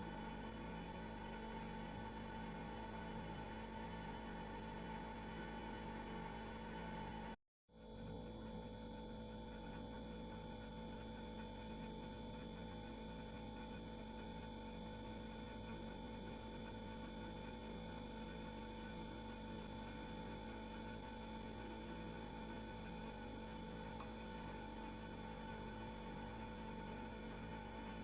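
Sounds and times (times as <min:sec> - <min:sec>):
refrigerator humming: 0:00.0 - 0:07.4, 0:08.7 - 0:28.0.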